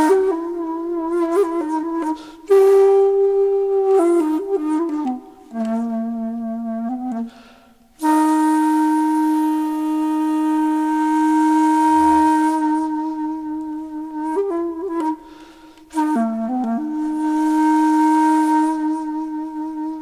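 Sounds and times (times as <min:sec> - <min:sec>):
wind instrument notes: 0:00.0 - 0:20.0.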